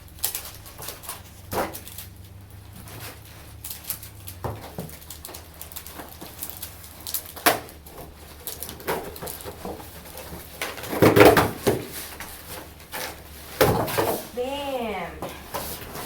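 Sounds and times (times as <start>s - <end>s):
knocks and rustles: 0.2s - 14.4s.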